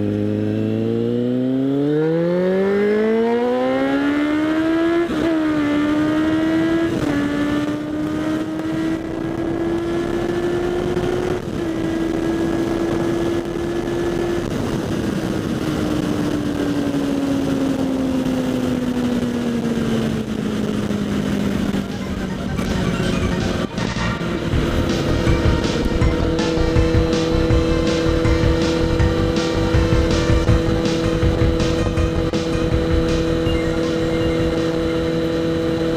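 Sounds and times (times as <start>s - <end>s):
motorcycle engine under way: 0.0s - 35.9s
wind noise on microphone: 3.5s - 35.9s.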